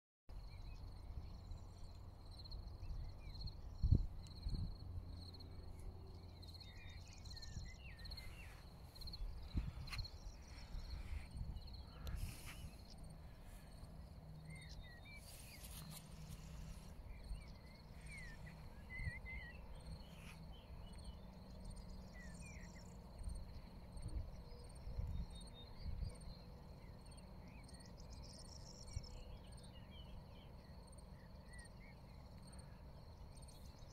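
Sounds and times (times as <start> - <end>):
wind rumble on microphone: 0.4 - 30.7.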